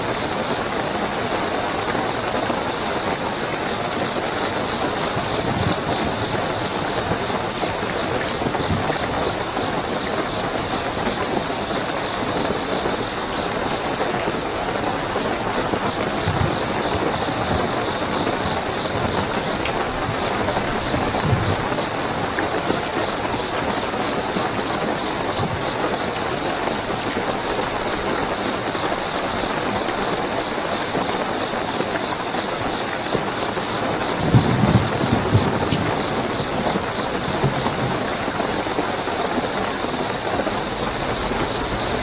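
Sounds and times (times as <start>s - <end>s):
cricket trill: 0.0s - 42.0s
heavy rainfall: 0.0s - 42.0s.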